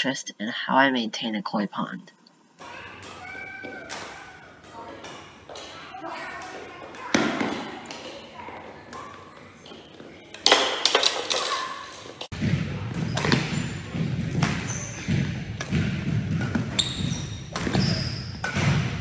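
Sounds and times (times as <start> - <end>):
rackets hitting shuttlecock: 2.6 - 19.0
sneakers squeaking on wooden court: 2.7 - 19.0.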